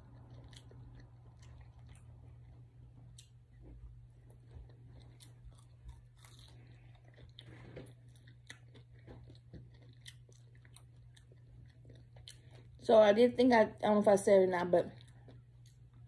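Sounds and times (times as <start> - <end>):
chewing and crunching: 0.0 - 12.9, 14.7 - 16.0.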